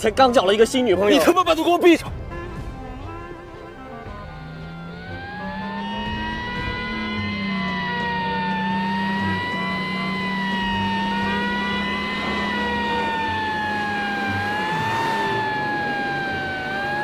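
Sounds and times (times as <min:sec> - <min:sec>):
emergency siren wailing: 0:02.5 - 0:17.0.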